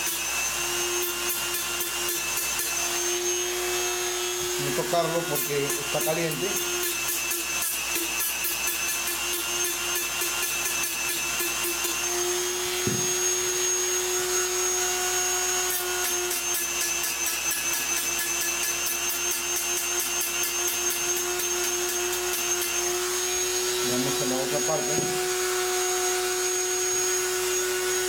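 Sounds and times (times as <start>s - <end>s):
rotary tool grinding metal: 0.0s - 28.0s.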